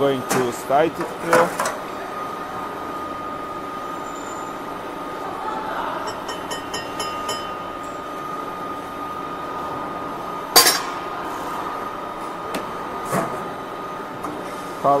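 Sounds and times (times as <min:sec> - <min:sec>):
high machine whine: 0:00.0 - 0:15.0.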